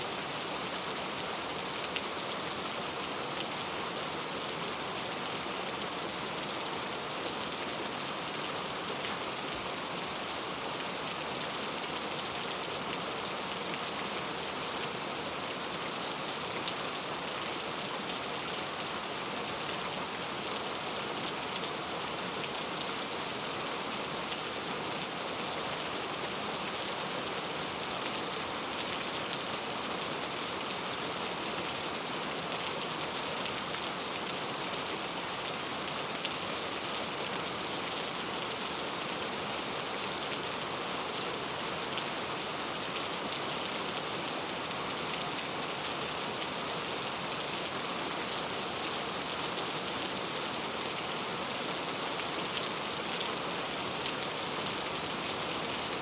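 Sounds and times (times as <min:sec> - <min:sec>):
rain falling on a road: 0:00.0 - 0:56.0.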